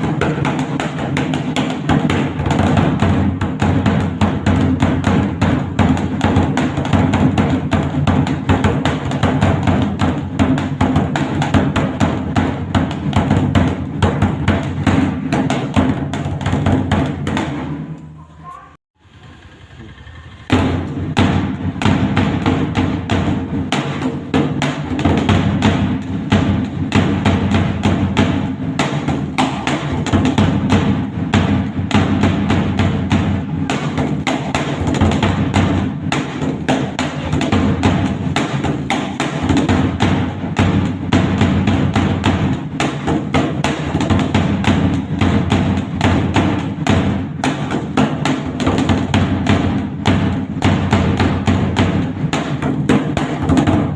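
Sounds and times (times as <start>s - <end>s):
barrel drum beaten with sticks: 0.0s - 18.0s, 20.5s - 53.9s.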